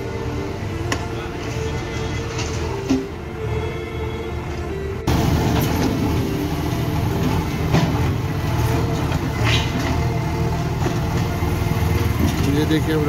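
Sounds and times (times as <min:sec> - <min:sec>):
diesel engines idling: 0:00.0 - 0:13.0.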